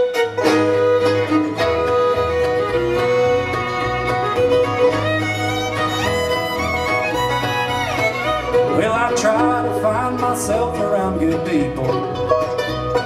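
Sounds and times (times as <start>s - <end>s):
fiddle melody: 0.0s - 13.0s
guitar: 0.0s - 13.0s
upright bass: 0.0s - 13.0s.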